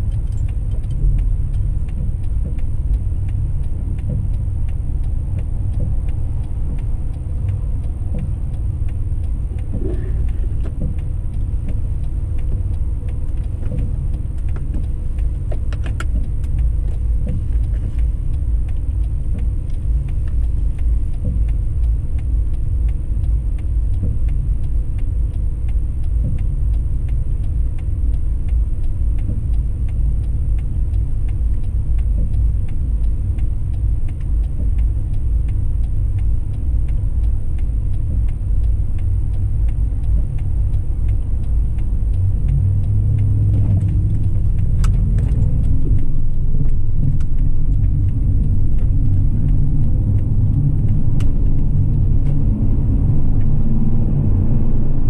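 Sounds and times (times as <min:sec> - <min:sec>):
car road and engine rumble: 0:00.0 - 0:55.0
faint clicks: 0:00.1 - 0:53.6.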